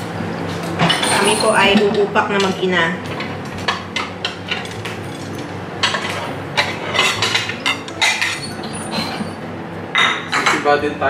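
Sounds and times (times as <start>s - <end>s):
plates and cutlery clinking: 0.4s - 10.8s.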